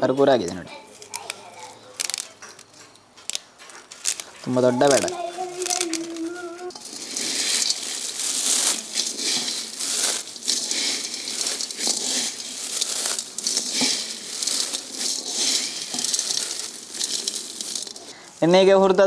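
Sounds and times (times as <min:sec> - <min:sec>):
crunching crisp snacks in metal wok: 0:00.3 - 0:18.8.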